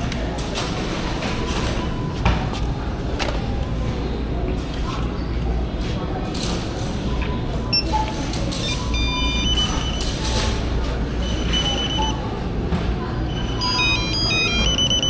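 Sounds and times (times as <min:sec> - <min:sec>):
faint voices: 0:00.0 - 0:15.0
store hum: 0:00.0 - 0:15.0
checkout electronic beeps: 0:00.4 - 0:05.1, 0:06.3 - 0:15.0.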